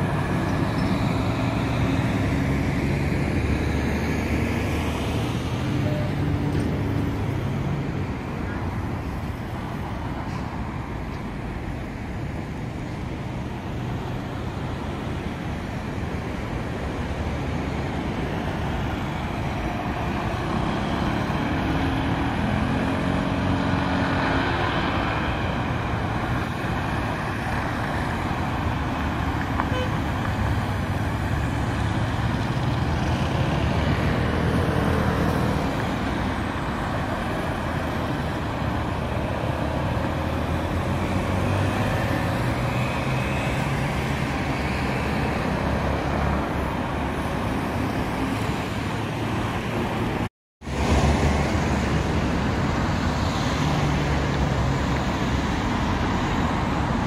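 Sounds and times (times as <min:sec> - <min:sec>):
cars and motorbikes passing: 0:00.0 - 0:57.0.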